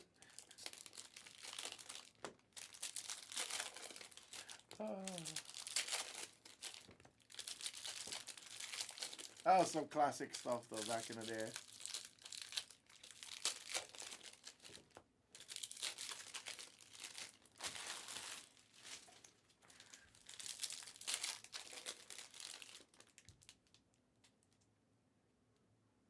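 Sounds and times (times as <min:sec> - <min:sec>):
foil wrappers crinkling and tearing: 0:00.0 - 0:23.8.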